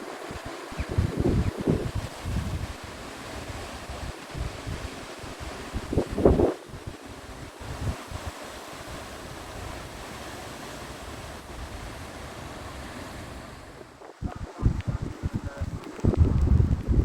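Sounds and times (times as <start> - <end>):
floodwater rushing: 0.0 - 17.0
wind buffeting microphone: 0.0 - 17.0.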